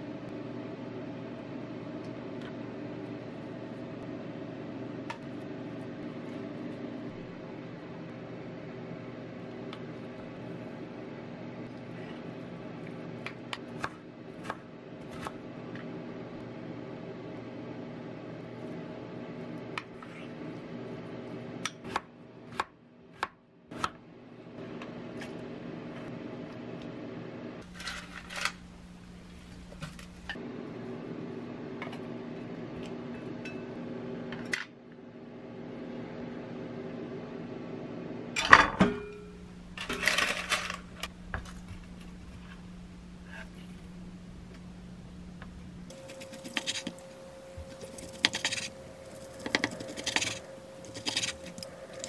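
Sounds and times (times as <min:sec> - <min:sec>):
steady low hum: 0:00.0 - 0:22.5, 0:24.1 - 0:52.0.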